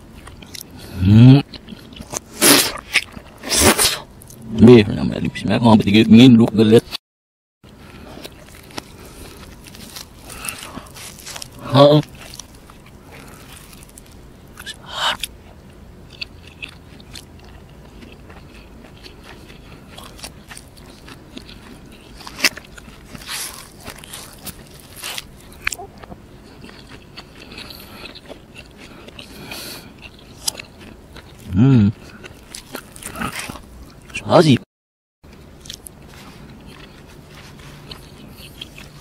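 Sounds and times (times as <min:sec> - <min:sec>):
man chewing food: 0:00.0 - 0:04.5, 0:07.7 - 0:34.2, 0:35.2 - 0:39.0.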